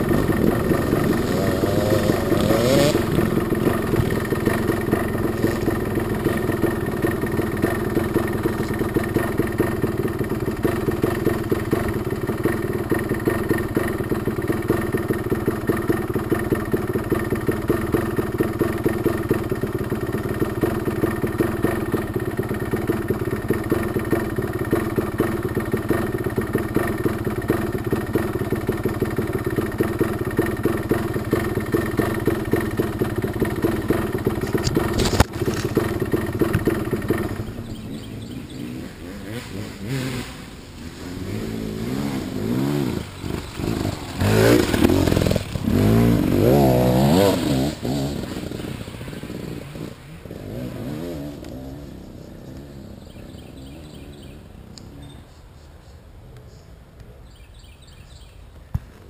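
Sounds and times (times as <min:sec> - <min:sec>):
dirt bike engine idling: 0:00.0 - 0:58.4.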